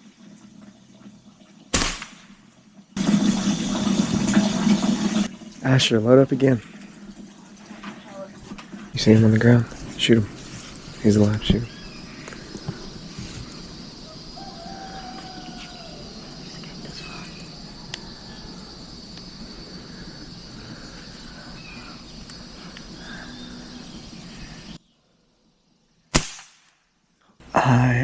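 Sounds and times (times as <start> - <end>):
high insect drone: 0.0 - 26.1.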